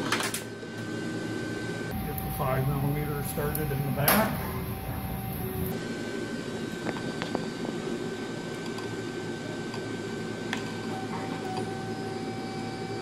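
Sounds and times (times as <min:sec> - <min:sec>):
fan-like workshop hum: 0:00.0 - 0:13.0
thin high whine: 0:01.6 - 0:13.0.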